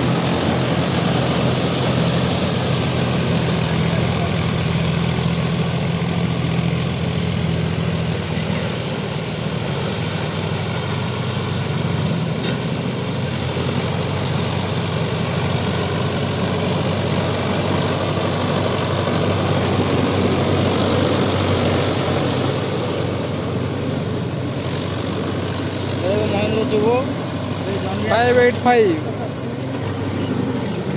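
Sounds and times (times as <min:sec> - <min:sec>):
rotavator churning mud: 0:00.0 - 0:30.9
tractor diesel engine running: 0:00.0 - 0:30.9.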